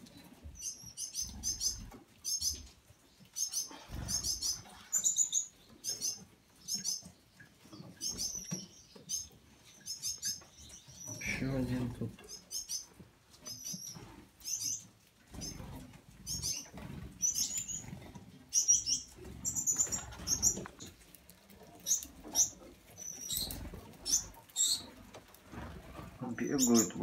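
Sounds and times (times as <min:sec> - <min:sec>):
young birds begging: 0:00.1 - 0:27.0
finches chirping: 0:00.6 - 0:02.7, 0:03.4 - 0:21.1, 0:21.8 - 0:27.0.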